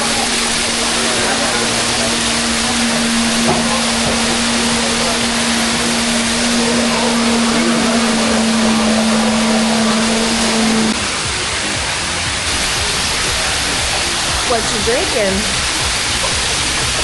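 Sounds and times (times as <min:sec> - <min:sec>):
low hum: 0:00.0 - 0:17.0
waterfall rushing: 0:00.0 - 0:17.0.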